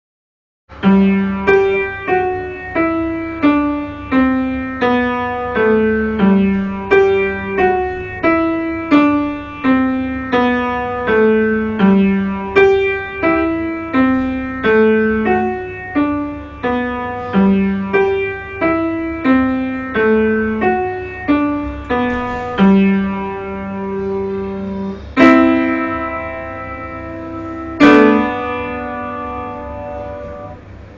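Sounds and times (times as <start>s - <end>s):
loud piano chords: 0.7s - 30.9s
slow piano melody: 0.7s - 30.9s.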